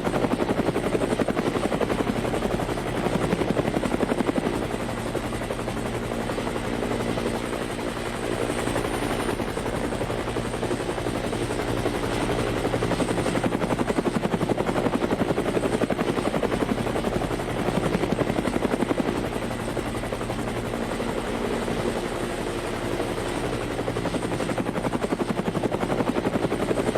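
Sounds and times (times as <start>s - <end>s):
helicopter engine drone: 0.0s - 26.9s
helicopter rotor beating: 0.0s - 26.9s.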